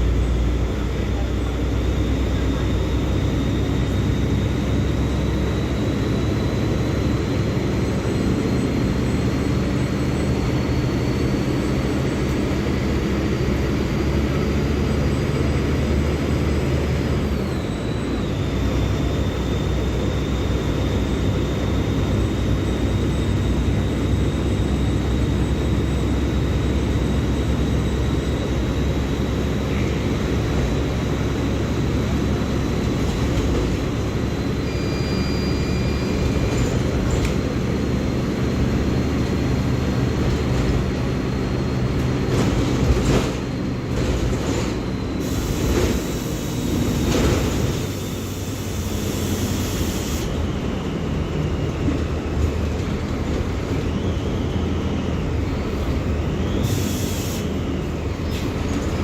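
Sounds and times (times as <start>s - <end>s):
bus diesel engine humming: 0.0s - 59.0s
high engine whine: 0.0s - 59.0s.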